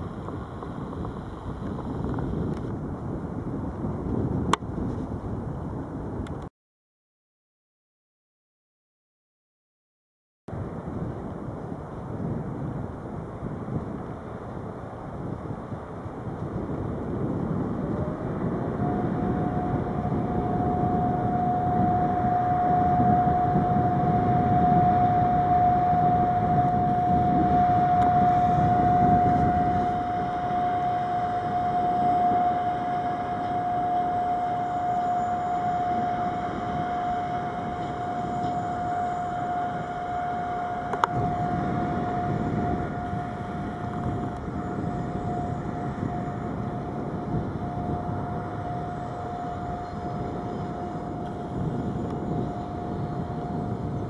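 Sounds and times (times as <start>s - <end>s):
high whine: 0.0s - 6.5s, 10.5s - 54.0s.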